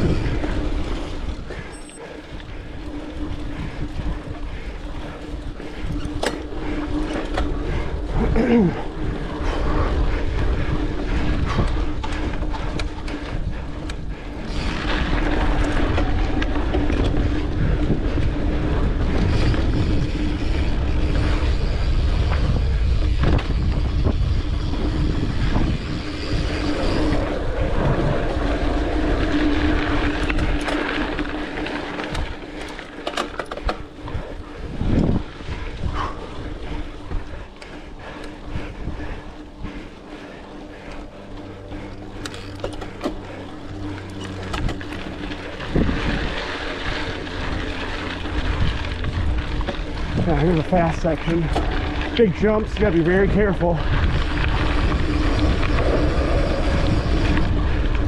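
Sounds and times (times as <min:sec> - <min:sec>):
mountain bike rumbling on dirt: 0:00.0 - 0:58.0
bike clicks and knocks: 0:00.1 - 0:52.8.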